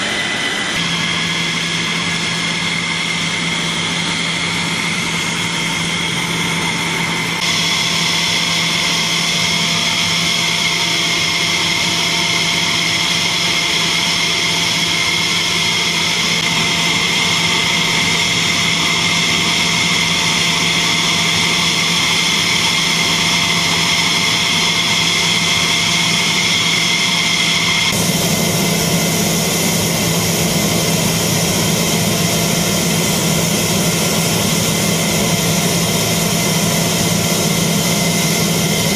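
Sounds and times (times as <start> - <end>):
jet engine whining: 0.0 - 38.9.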